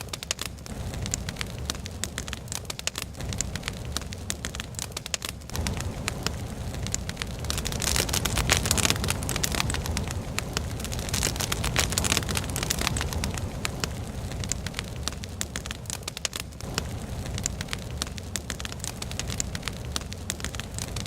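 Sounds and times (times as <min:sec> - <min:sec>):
hiss of flame: 0:00.0 - 0:21.0
logs crackling and popping: 0:00.0 - 0:21.0.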